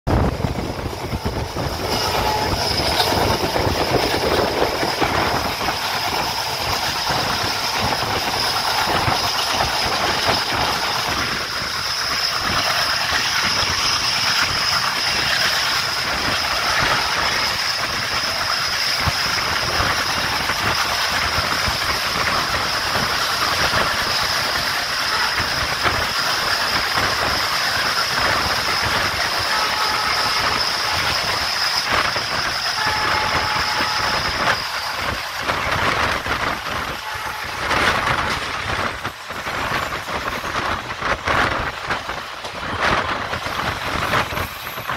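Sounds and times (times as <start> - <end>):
wheels rushing on rails: 0.0 - 44.9
wind rushing: 0.1 - 24.7, 30.4 - 44.9
fast clickety-clack: 0.1 - 44.9
high-pitched whine: 0.1 - 44.9.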